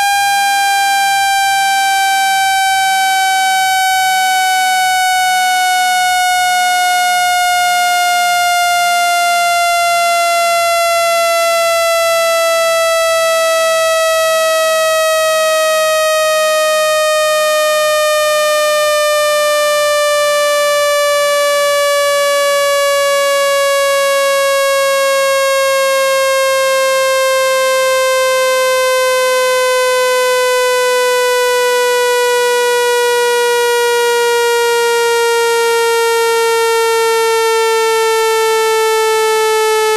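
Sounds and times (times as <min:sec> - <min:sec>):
electronic tone sweeping downward: 0:00.0 - 0:39.9.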